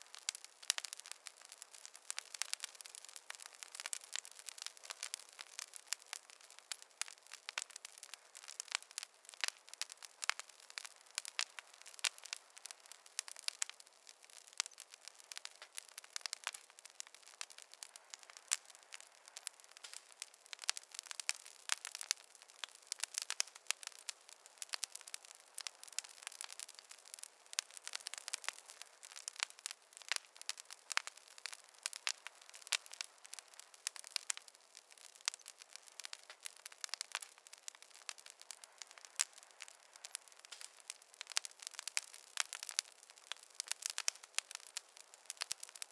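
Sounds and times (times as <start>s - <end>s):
campfire crackling: 0.0s - 45.9s.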